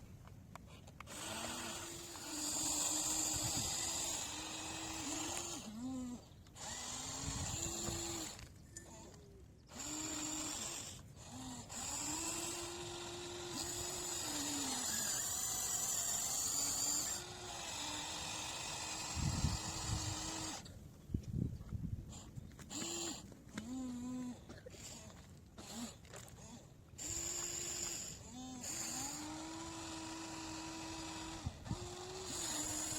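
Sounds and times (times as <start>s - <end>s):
small electric motors whining: 0.6s - 20.8s, 21.6s - 32.9s.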